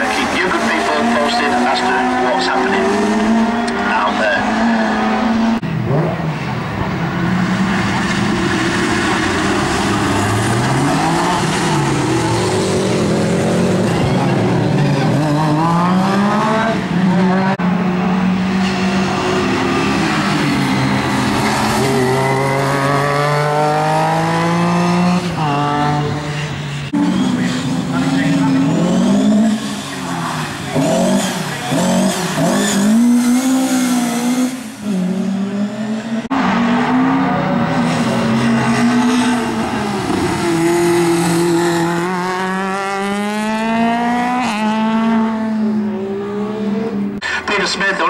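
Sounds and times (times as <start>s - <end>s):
rally car engines accelerating: 0.0s - 48.0s.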